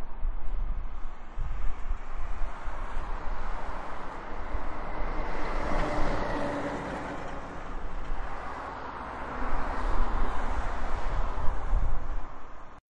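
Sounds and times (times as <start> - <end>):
wind buffeting microphone: 0.0 - 12.8
passing vehicle rumbling: 1.1 - 12.5.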